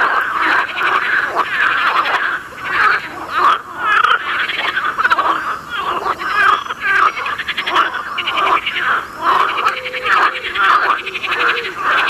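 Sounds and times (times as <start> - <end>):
frogs calling: 0.0 - 12.0.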